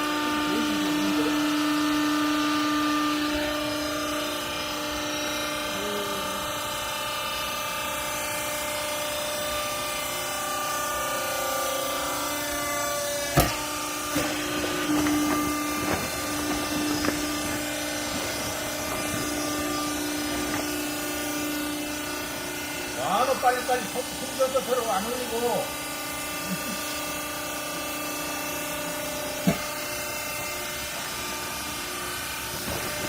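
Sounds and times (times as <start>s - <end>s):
hydraulic power unit humming: 0.0s - 33.0s.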